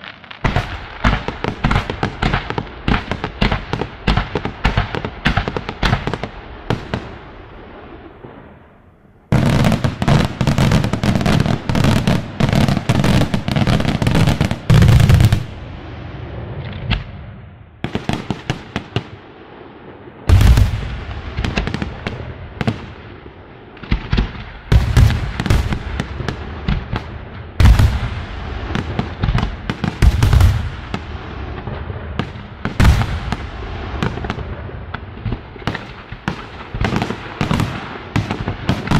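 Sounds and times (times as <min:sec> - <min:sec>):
fireworks bangs and pops: 0:00.0 - 0:19.3, 0:20.2 - 0:38.9
heavy fireworks booms: 0:00.0 - 0:38.9.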